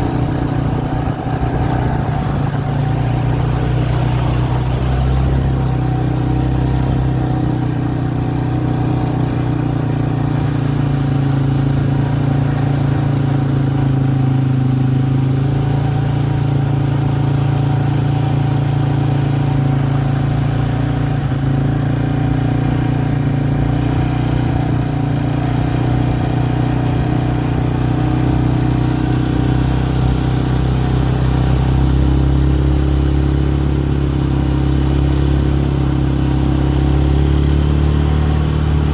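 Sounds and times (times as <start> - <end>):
vehicle engine running steadily: 0.0 - 38.9.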